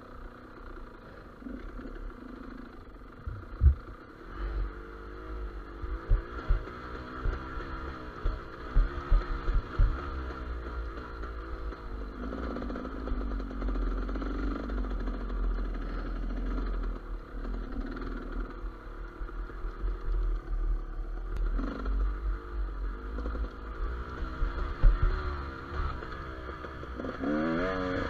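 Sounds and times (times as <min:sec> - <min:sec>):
two-stroke motorcycle engine revving: 0:00.0 - 0:28.0.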